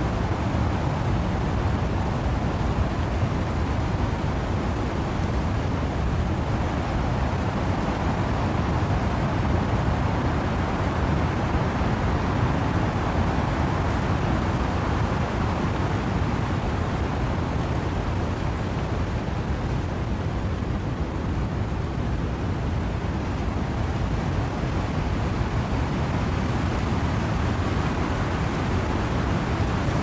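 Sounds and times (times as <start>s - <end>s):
wind and rain through trees: 0.0s - 30.0s.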